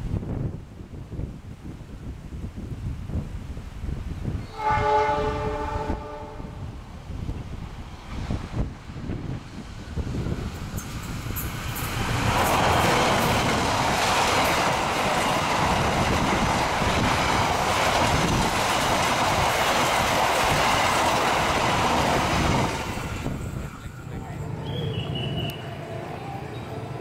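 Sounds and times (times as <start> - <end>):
train wheels rushing on rails: 4.3 - 27.0.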